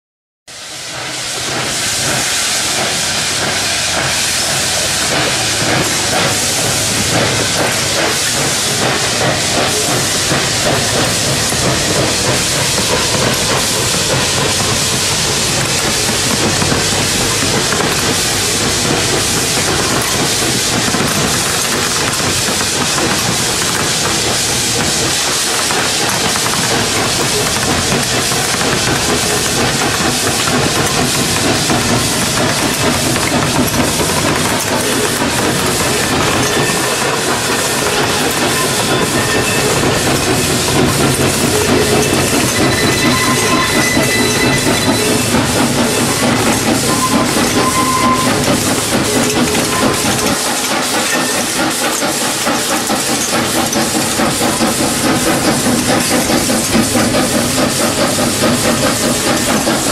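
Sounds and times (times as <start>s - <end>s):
steam locomotive hissing: 0.5s - 59.9s.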